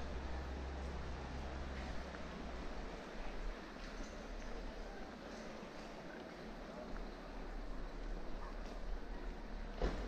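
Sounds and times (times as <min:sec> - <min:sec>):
city street background hiss: 0:00.0 - 0:10.0.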